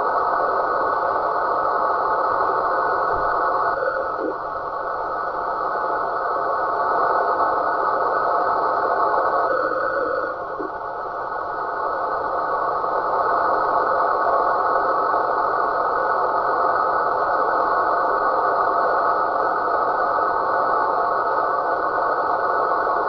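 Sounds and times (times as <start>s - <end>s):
radio static noise: 0.0s - 23.0s.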